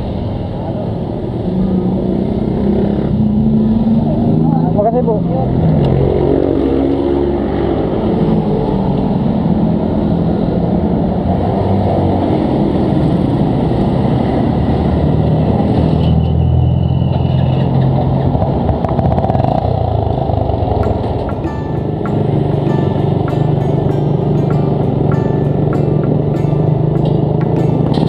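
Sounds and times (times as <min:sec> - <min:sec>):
motorcycle engines in traffic: 0:00.0 - 0:28.0.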